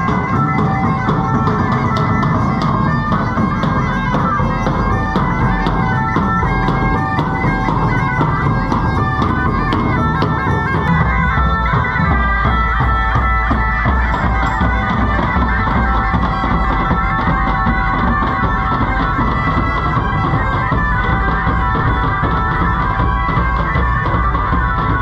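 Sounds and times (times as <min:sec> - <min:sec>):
bagpipes playing a marching tune: 0:00.0 - 0:25.0
marching bass drums: 0:00.0 - 0:25.0.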